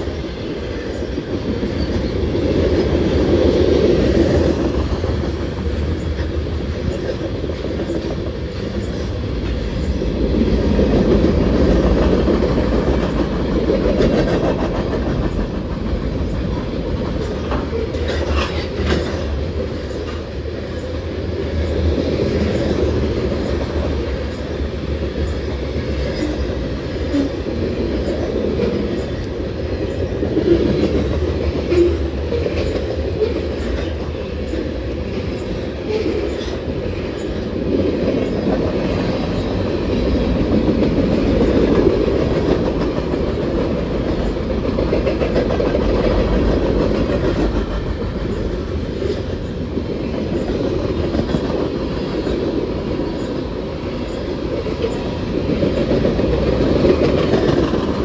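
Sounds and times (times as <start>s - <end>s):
clickety-clack over rail joints: 0.0s - 58.0s
train wheels rumbling on rail: 0.0s - 58.0s.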